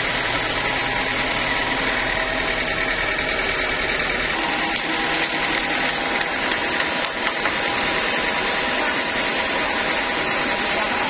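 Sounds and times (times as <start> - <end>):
band sawmill drone: 0.0 - 11.0.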